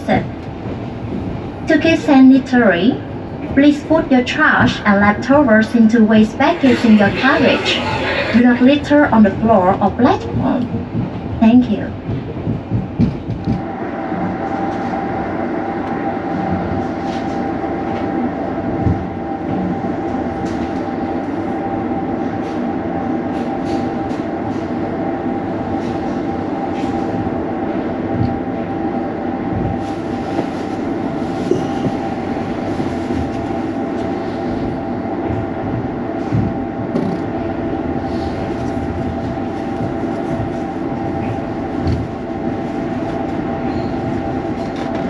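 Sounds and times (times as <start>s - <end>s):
constant hum: 0.0s - 45.0s
train rumble: 0.0s - 45.0s.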